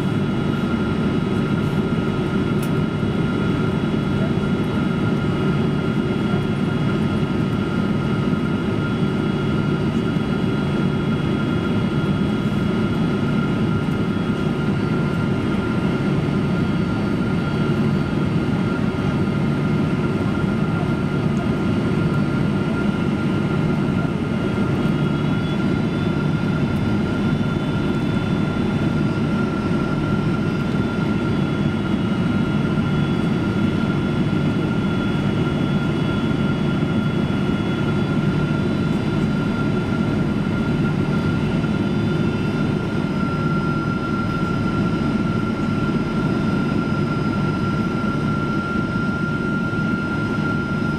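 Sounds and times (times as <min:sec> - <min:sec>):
airplane cabin engine rush: 0:00.0 - 0:50.9.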